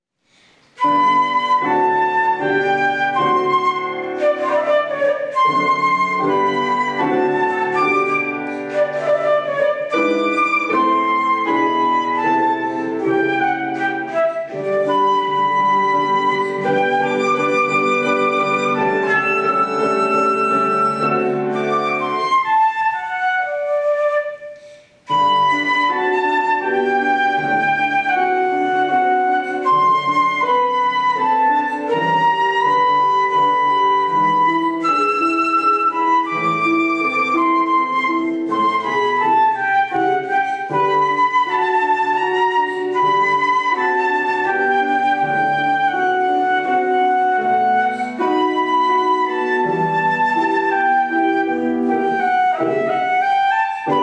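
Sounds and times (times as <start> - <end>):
piano accompaniment: 0.2 - 54.0
flute waltz melody: 0.8 - 54.0.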